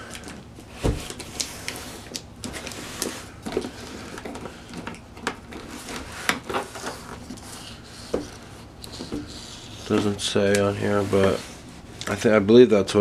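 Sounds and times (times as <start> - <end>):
packaging taps and rustles: 0.1 - 11.3.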